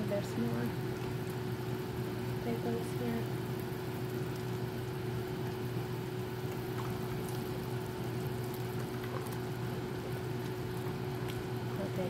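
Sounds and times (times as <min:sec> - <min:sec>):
broth bubbling in a pot: 0:00.0 - 0:12.0
constant low hum: 0:00.0 - 0:12.0.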